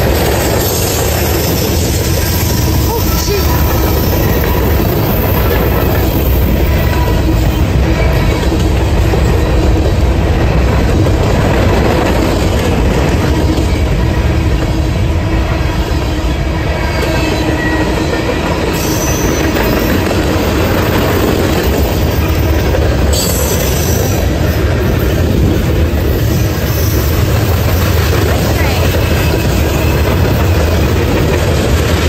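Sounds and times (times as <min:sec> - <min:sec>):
train wheels on rails: 0:00.0 - 0:32.0.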